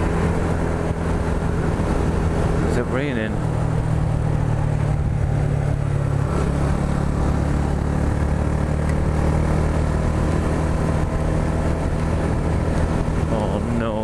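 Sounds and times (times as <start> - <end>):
motorcycle engine running: 0.0 - 14.0
steady rushing noise: 0.0 - 14.0.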